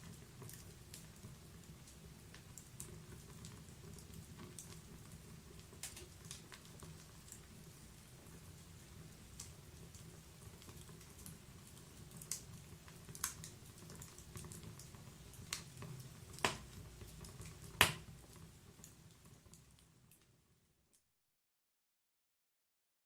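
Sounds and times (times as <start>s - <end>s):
low fire rumble: 0.0s - 19.9s
fire crackling and popping: 0.0s - 20.4s.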